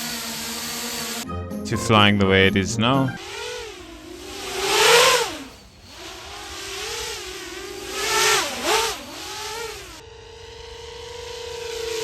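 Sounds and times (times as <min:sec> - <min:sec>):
quadcopter motors whining: 0:00.0 - 0:01.3, 0:03.2 - 0:12.0.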